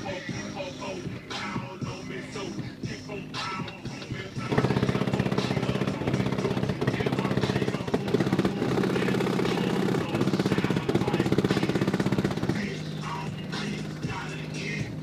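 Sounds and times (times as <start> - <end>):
loud subwoofer bass buzz: 0.0 - 15.0.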